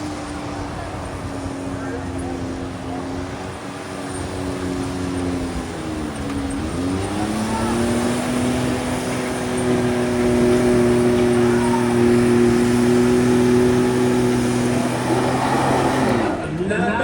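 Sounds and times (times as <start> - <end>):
truck engine at high revs: 0.0 - 17.0.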